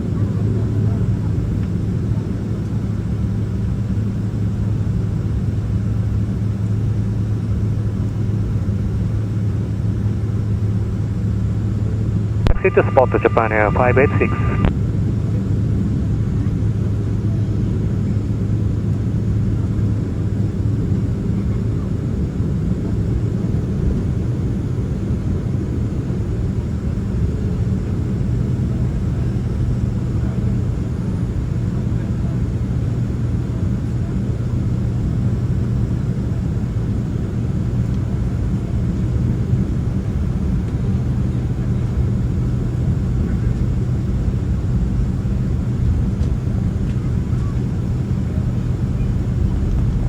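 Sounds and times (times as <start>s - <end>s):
aircraft cabin rumble: 0.0s - 50.0s
idling engines hum: 0.0s - 50.0s.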